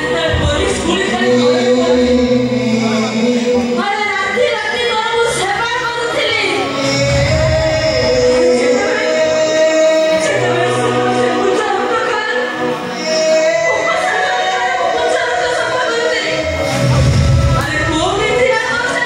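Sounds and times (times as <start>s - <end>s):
woman singing: 0.0s - 16.7s
instrumental backing: 0.0s - 19.0s.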